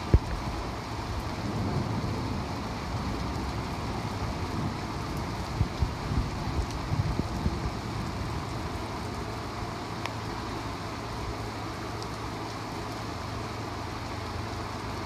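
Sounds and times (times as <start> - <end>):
rain on a car: 0.0 - 15.0
raindrops ticking: 0.0 - 15.0.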